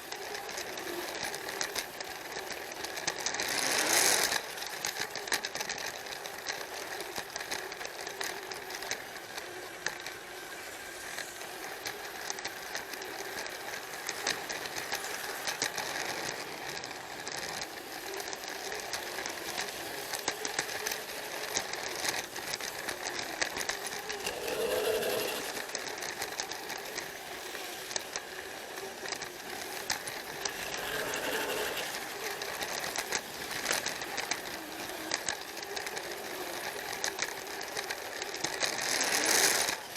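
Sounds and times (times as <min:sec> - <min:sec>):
light clicks of toy train: 0:00.0 - 0:39.9
toy train motor whirring: 0:00.0 - 0:39.9.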